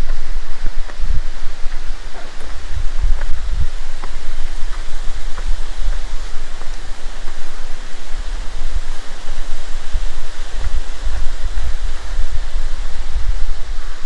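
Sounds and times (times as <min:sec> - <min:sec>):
waterfall rushing: 0:00.0 - 0:14.0
wind buffeting microphone: 0:00.0 - 0:14.0.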